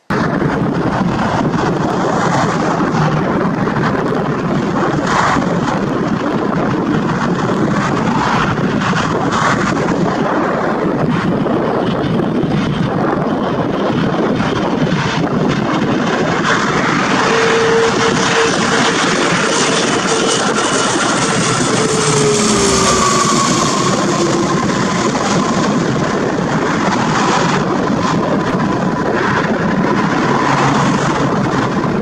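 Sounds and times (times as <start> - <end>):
steady whine: 0.0 - 32.0
turboprop engines droning: 0.0 - 32.0.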